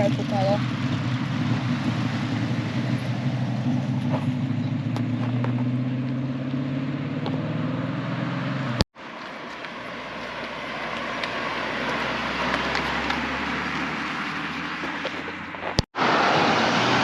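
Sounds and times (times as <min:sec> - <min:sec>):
car engines rumbling low: 0:00.0 - 0:17.0.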